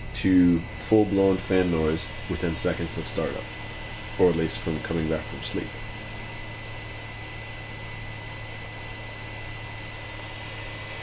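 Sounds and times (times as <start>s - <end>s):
computer cooling fans running: 0.0s - 11.0s.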